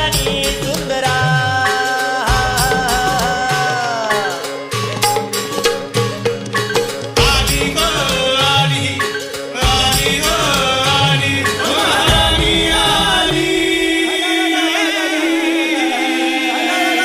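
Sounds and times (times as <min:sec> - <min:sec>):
drums and bass: 0:00.0 - 0:14.4.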